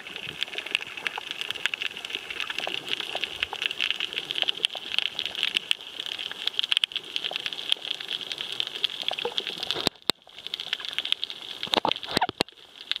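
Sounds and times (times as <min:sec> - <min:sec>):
snapping shrimp crackling underwater: 0:00.0 - 0:13.0.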